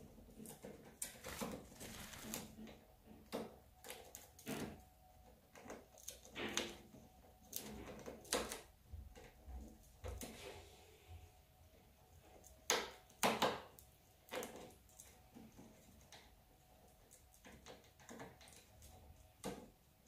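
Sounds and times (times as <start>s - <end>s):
parrots clicking and rustling: 0.3s - 10.4s, 12.3s - 19.8s.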